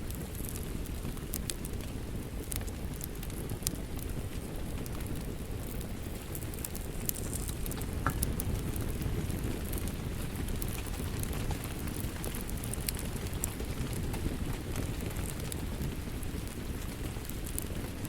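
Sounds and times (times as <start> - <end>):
log fire crackling: 0.0 - 18.0
steady rain: 0.0 - 18.0.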